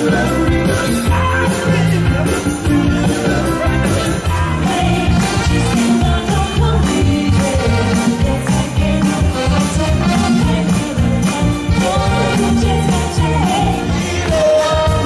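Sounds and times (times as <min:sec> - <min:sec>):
live soul band playing: 0:00.0 - 0:15.0.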